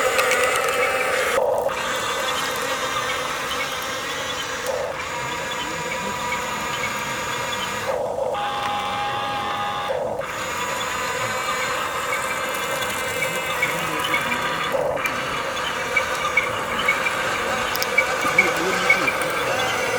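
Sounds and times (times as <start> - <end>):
small electric motors whining: 0.0 - 19.9.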